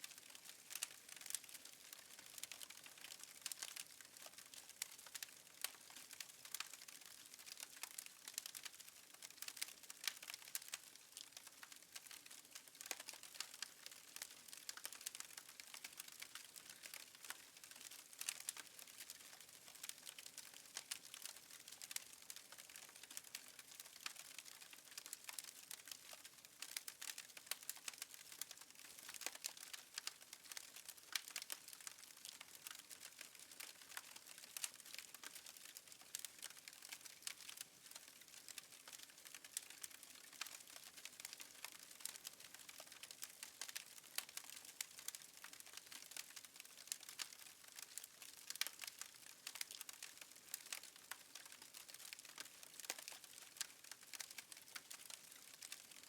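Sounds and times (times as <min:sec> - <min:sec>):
wood fire crackling: 0:00.1 - 0:56.0.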